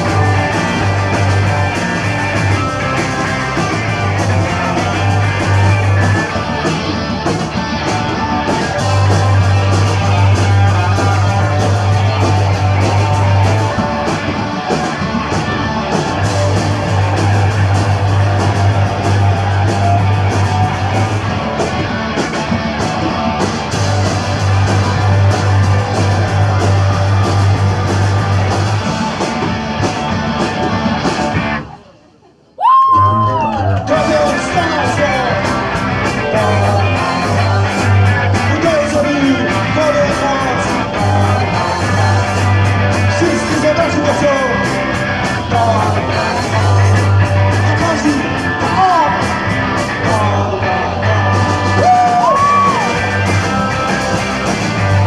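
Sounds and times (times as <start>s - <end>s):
live punk rock band: 0.0s - 32.0s, 32.6s - 55.0s.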